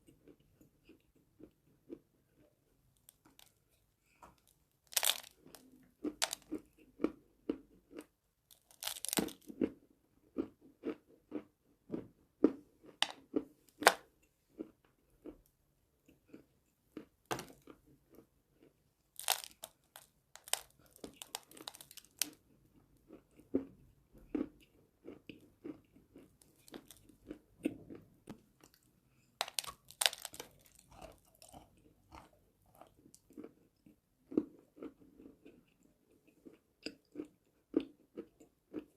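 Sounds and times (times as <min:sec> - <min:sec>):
chewing chalk crunches: 0:00.2 - 0:09.8, 0:12.4 - 0:15.4, 0:16.0 - 0:38.9.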